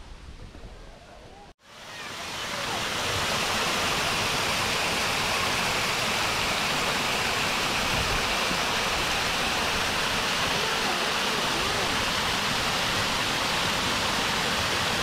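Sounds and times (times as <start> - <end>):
waterfall splashing into pool: 1.6 - 15.0.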